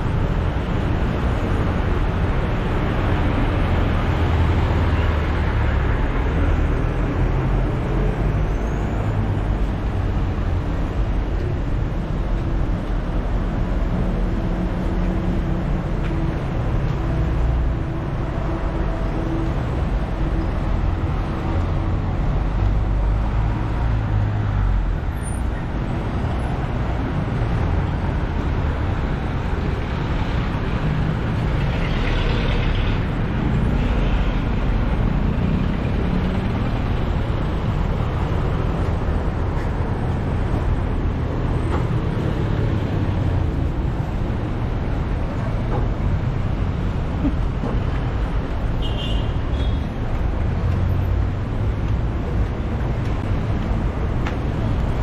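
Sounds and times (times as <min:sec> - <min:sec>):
vehicle engines passing: 0:00.0 - 0:55.0.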